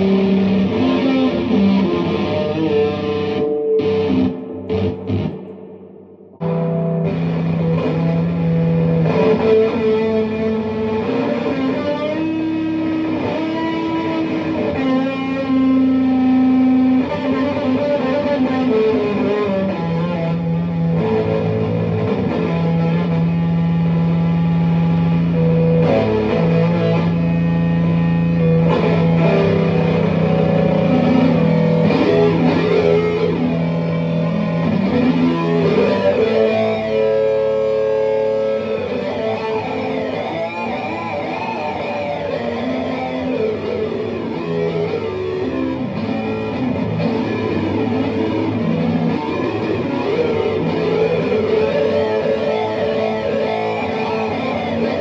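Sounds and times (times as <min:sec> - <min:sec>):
fuzzy synth-like electric guitar: 0:00.0 - 0:55.0.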